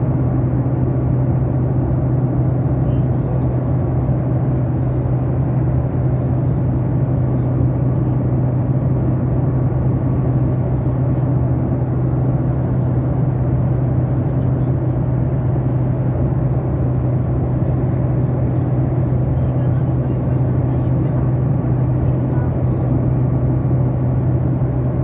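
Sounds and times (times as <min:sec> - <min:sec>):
airliner cabin engine drone: 0:00.0 - 0:25.0.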